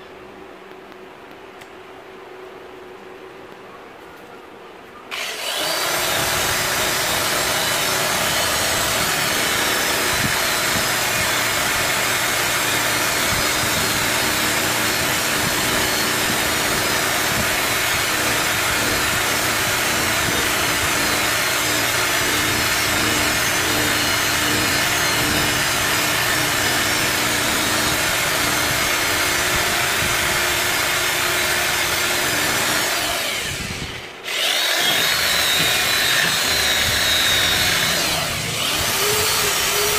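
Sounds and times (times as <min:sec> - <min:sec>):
drill wire brush scrubbing metal: 0:05.2 - 0:39.9.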